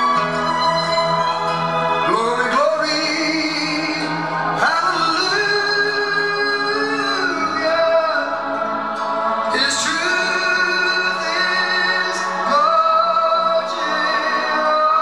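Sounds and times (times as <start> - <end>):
voices singing held notes: 0.0 - 15.0.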